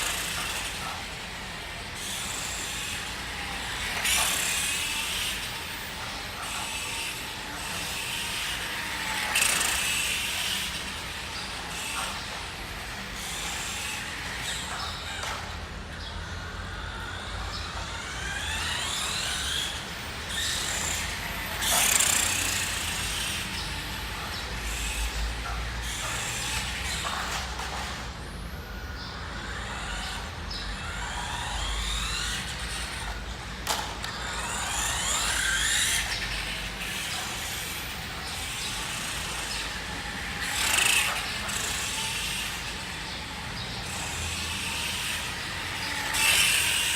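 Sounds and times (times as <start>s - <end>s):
electric motor and gears whining: 0.0s - 46.9s.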